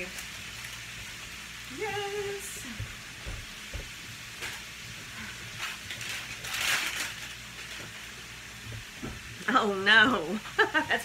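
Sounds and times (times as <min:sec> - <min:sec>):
meat frying in a skillet: 0:00.0 - 0:11.0.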